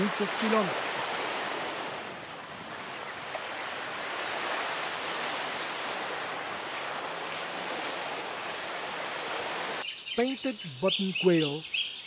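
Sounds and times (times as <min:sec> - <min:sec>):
sea waves breaking on beach: 0:00.0 - 0:09.8.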